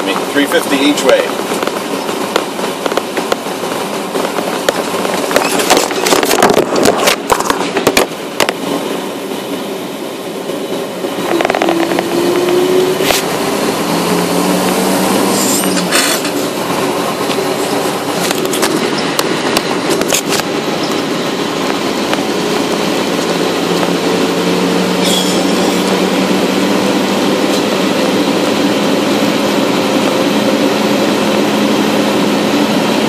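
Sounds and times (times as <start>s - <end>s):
tyres rushing on pavement: 0.0s - 33.0s.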